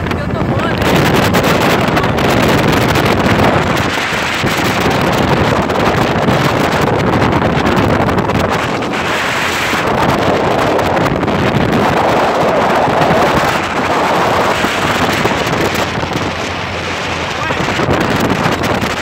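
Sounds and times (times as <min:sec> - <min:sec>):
boat engine: 0:00.0 - 0:19.0
water rushing past hull: 0:00.0 - 0:19.0
wind buffeting microphone: 0:00.0 - 0:19.0.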